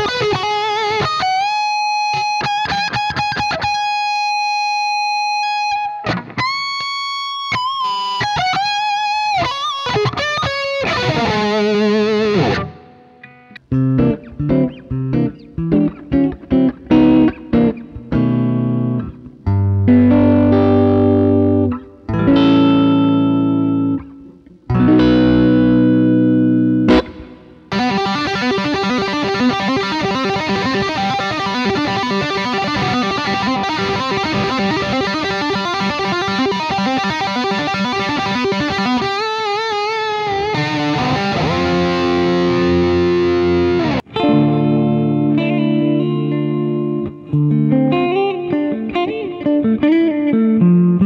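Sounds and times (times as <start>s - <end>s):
electric guitar through amplifier: 0.0s - 51.0s.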